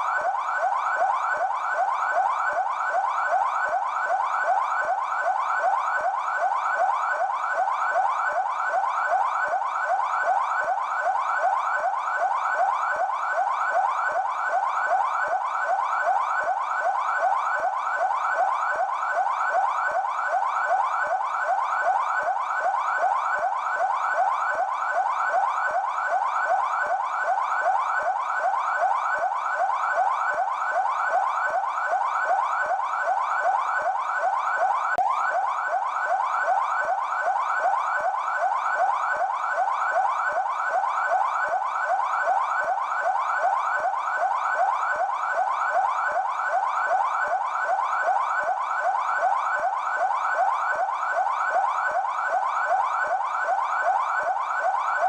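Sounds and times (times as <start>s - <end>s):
police siren yelping: 0.0s - 55.0s.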